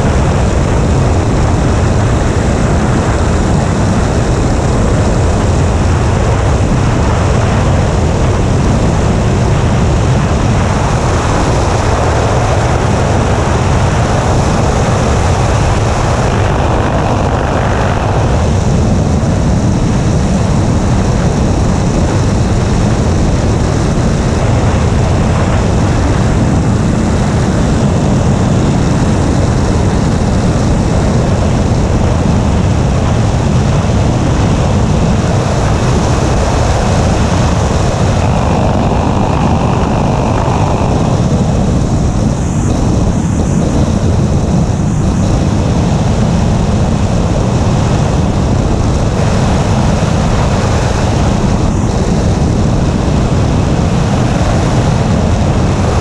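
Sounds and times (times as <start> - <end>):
heavy wind rush: 0.0 - 56.0
turboprop engine and propeller: 0.0 - 56.0.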